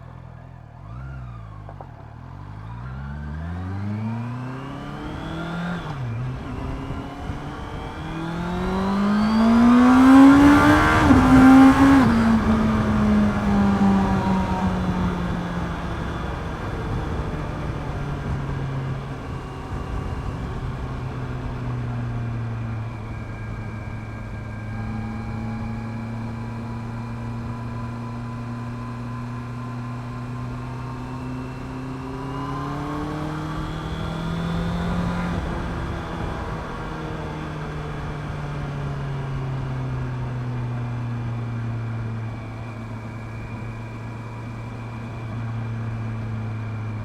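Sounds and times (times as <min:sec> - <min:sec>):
motorcycle engine revving: 0:00.3 - 0:47.0.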